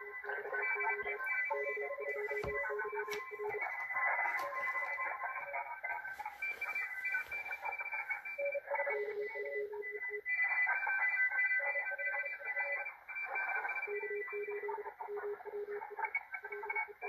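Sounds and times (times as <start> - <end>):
morse code beeps: 0.0 - 17.0
radio hiss: 0.0 - 17.0.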